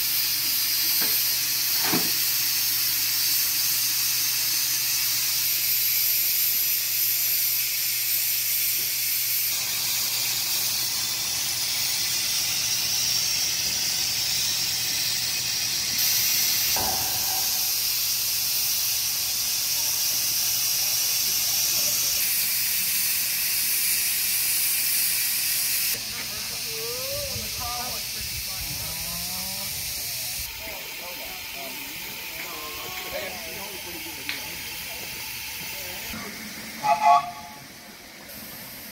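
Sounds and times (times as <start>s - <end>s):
steam hissing from model locomotive: 0.0s - 38.9s.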